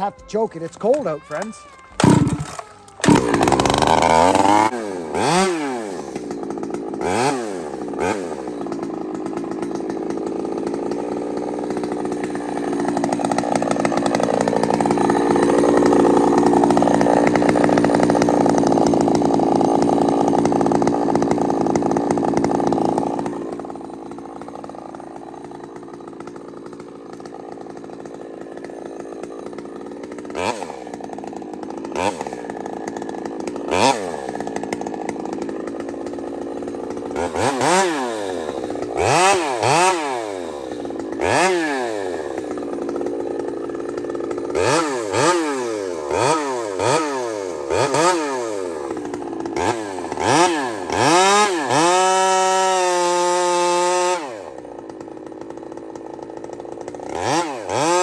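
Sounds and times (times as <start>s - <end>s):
chainsaw revving and idling: 0.0s - 58.0s.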